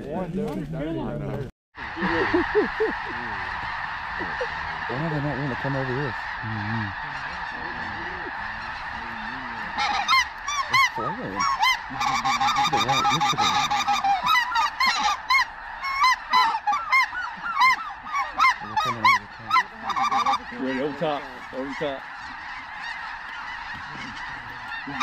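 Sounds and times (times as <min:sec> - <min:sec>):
closer high goose honks: 0:01.8 - 0:25.0
distant geese honking: 0:01.8 - 0:25.0.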